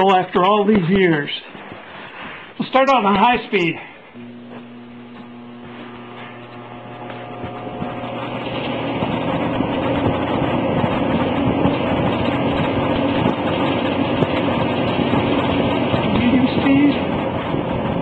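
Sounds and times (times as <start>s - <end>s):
box fan running: 0.0s - 18.0s.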